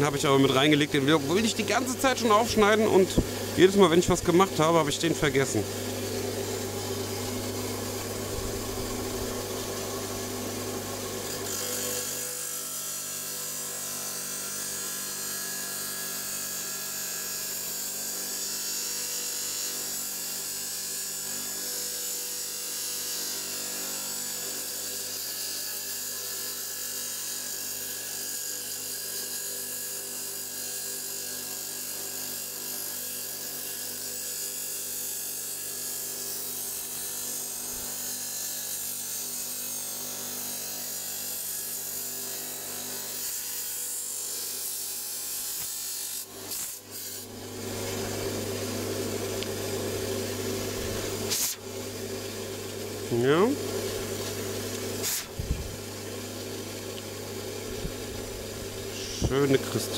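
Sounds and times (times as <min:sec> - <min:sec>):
power saw cutting stone: 0:00.0 - 0:59.9.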